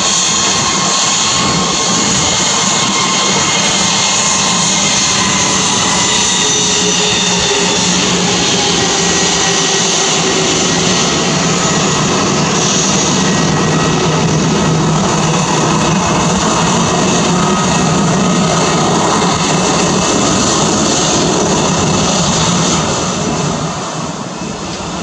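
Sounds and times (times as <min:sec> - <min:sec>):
jet engines whining: 0:00.0 - 0:25.0.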